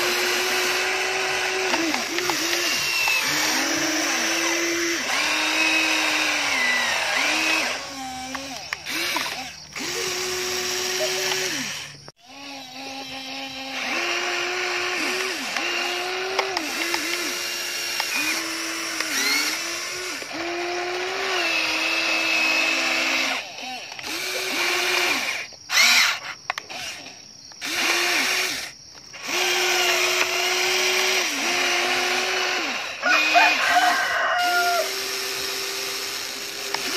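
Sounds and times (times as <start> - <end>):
toy excavator electric motors whining: 0.0 - 36.9.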